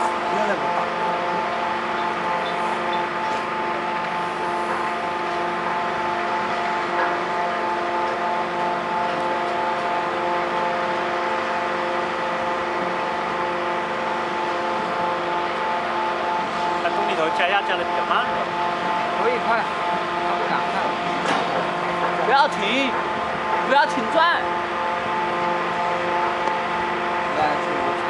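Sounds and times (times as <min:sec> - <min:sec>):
engine and hydraulic drone: 0:00.0 - 0:28.0
steady whining tones: 0:00.0 - 0:28.0.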